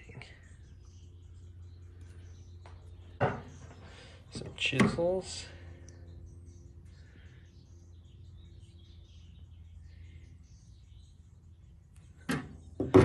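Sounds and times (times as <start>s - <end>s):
faint bird chirps: 0.0s - 12.9s
steady low hum: 0.0s - 13.0s.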